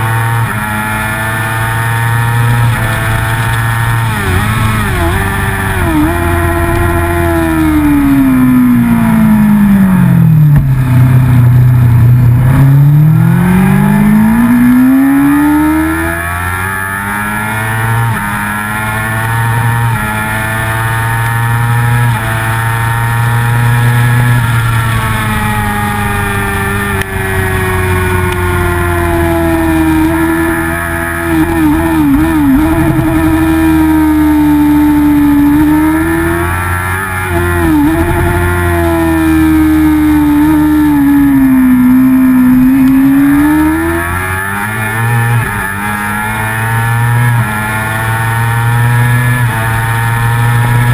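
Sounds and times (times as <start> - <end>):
racing motorcycle engine: 0.0 - 50.9.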